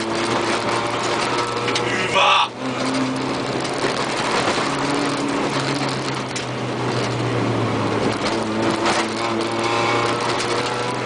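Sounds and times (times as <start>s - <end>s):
clicks and rattles: 0.0s - 1.9s, 2.6s - 7.2s, 8.0s - 11.0s
car engine running: 0.0s - 11.0s
tyre and road noise: 0.0s - 11.0s.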